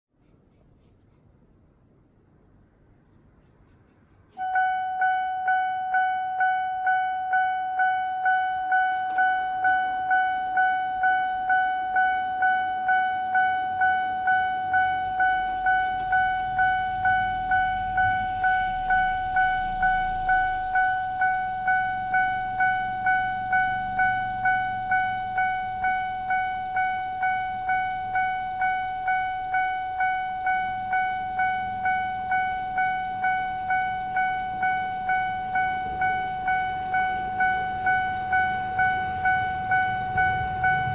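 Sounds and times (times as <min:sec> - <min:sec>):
level crossing alarm ringing: 0:04.4 - 0:40.9.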